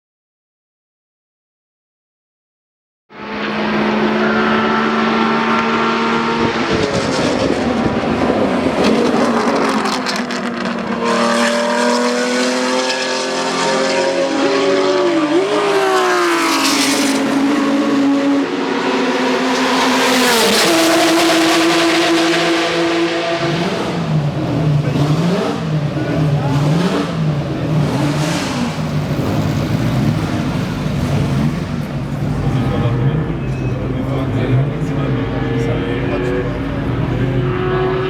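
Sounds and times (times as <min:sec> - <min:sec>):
racing car engine revving: 0:03.1 - 0:38.0.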